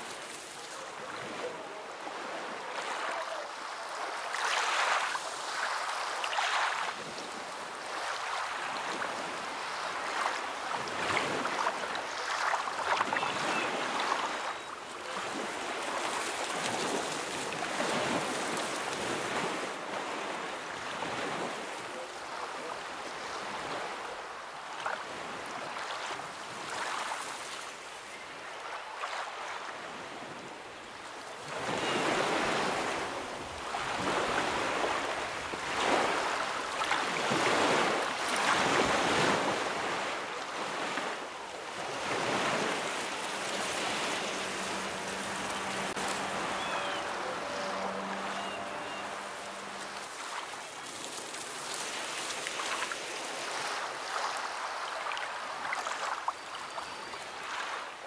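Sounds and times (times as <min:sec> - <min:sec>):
waves breaking: 0:00.0 - 0:58.0.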